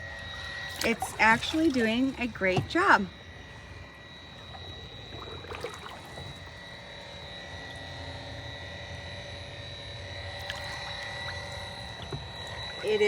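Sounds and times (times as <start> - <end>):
pool vacuum motor whining: 0.0 - 13.0.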